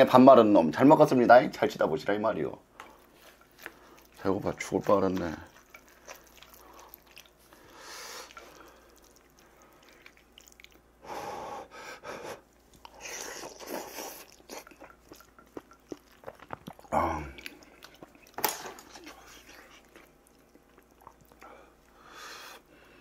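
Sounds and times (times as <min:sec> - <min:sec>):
man chewing wetly: 0:02.8 - 0:11.2, 0:11.9 - 0:22.9.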